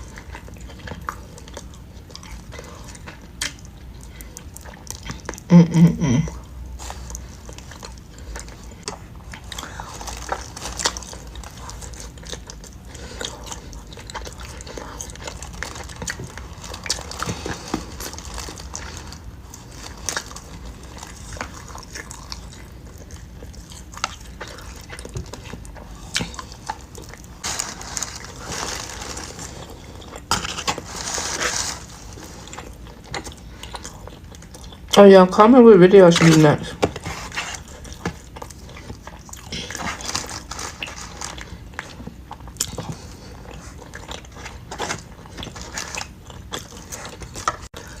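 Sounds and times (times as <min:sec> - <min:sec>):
chewing and biting: 0:00.0 - 0:05.5, 0:06.4 - 0:35.0, 0:36.2 - 0:48.0.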